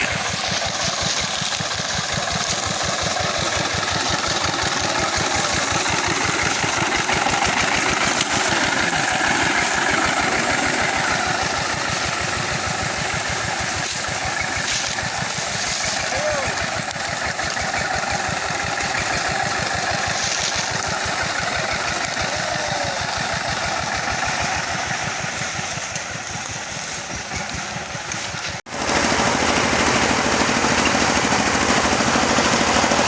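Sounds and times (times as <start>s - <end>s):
sawmill engine running: 0.0s - 33.0s.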